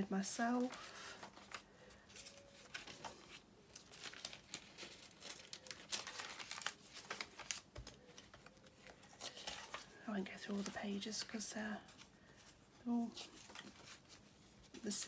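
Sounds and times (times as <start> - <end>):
paper pages rustling: 0.2 - 15.0.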